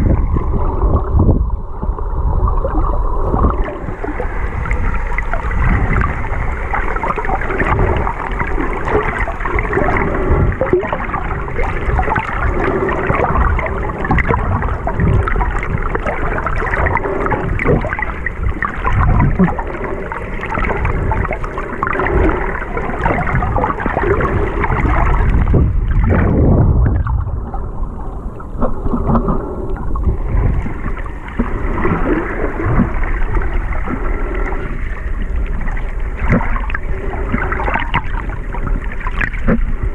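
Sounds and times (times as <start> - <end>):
underwater rushing and gurgling: 0.0 - 39.9.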